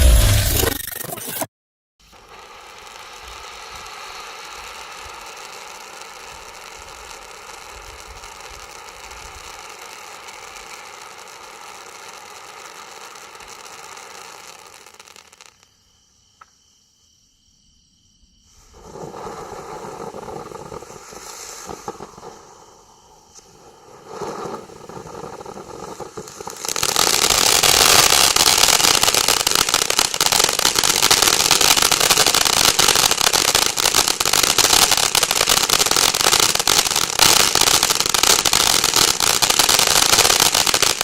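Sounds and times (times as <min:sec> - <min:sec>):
firework crackles: 0:02.0 - 0:16.0, 0:18.5 - 0:41.0
firework hissing sparks: 0:02.0 - 0:16.7, 0:18.5 - 0:41.0.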